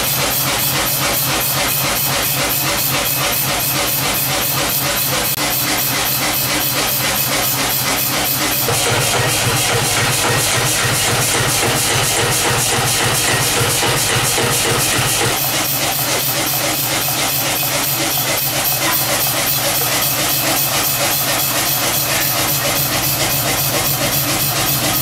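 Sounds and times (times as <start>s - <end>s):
workshop machinery pulsing: 0.0s - 25.0s.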